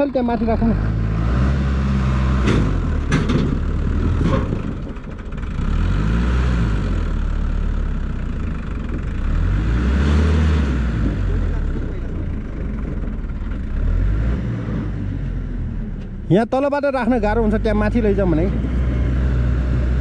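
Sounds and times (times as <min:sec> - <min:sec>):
tractor diesel engine revving: 0:00.0 - 0:20.0.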